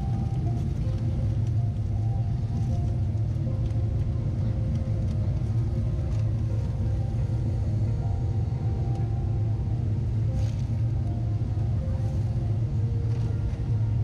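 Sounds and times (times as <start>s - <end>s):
airliner cabin rumble: 0.0s - 14.0s
jet engines running: 0.0s - 14.0s.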